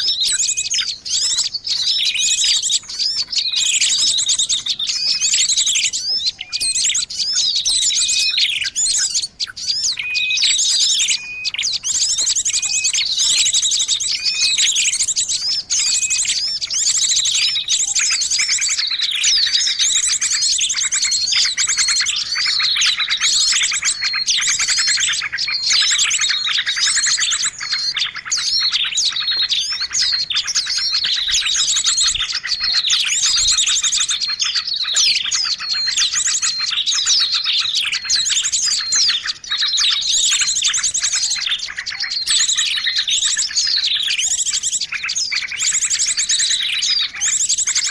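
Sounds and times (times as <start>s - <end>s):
birds chirping and trilling: 0.0s - 47.9s.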